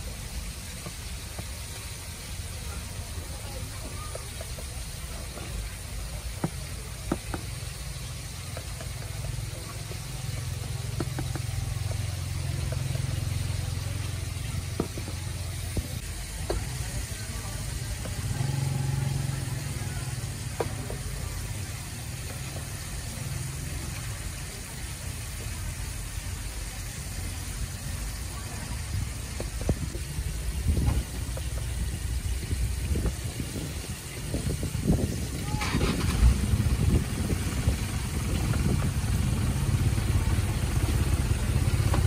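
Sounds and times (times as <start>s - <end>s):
chicken frying in oil: 0.0s - 42.0s
engine idling: 0.0s - 42.0s.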